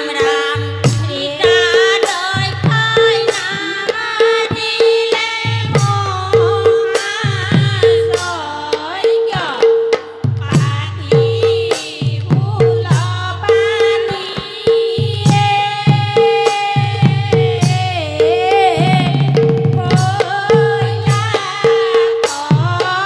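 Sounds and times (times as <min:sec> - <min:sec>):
hand-played barrel drum: 0:00.0 - 0:23.0
women singing together: 0:00.0 - 0:23.0.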